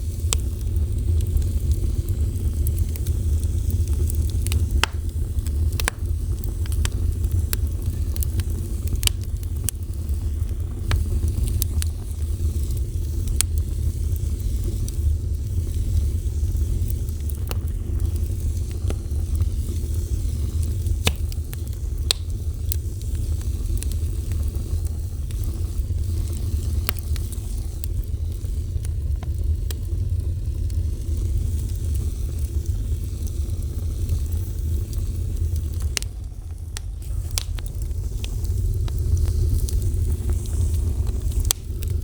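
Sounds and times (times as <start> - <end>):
fire burning with crackles: 0.0 - 42.0.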